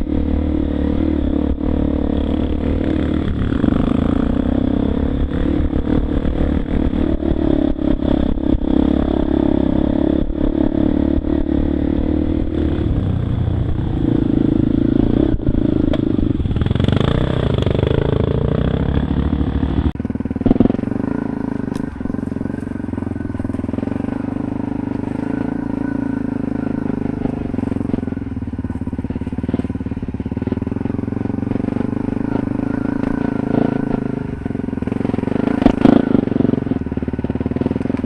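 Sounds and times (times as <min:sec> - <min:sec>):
dirt bike engine revving and idling: 0:00.0 - 0:38.0.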